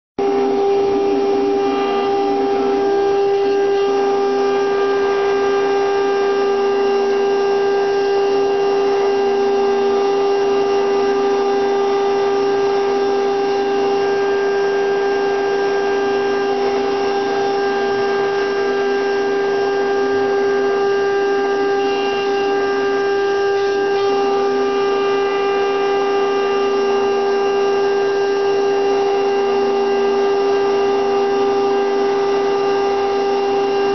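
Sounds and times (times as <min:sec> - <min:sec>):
router spindle whining: 0:00.2 - 0:33.9.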